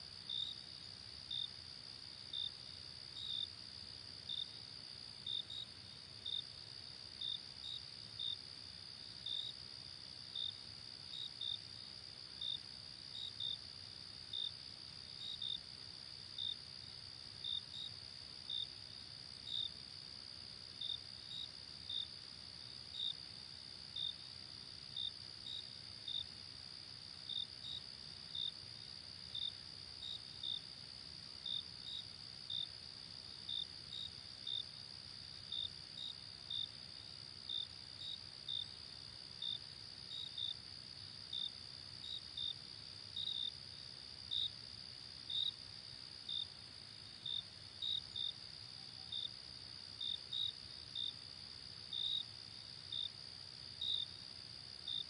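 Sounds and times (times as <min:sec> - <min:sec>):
cricket chirps: 0:00.0 - 0:55.0.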